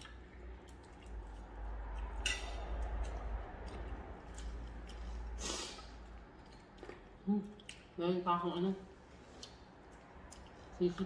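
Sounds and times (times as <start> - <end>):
person chewing food: 0.0 - 8.0, 9.0 - 10.8.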